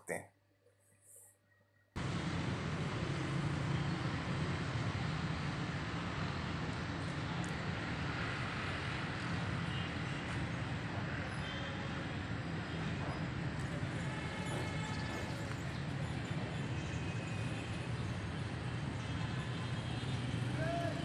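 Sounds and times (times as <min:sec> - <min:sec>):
road traffic rumble and hiss: 0:02.0 - 0:21.0.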